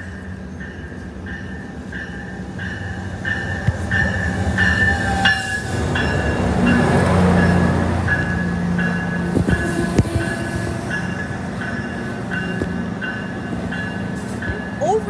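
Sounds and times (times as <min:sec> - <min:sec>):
train and wheels rumbling: 0:00.0 - 0:15.0
train bell ringing: 0:00.0 - 0:15.0.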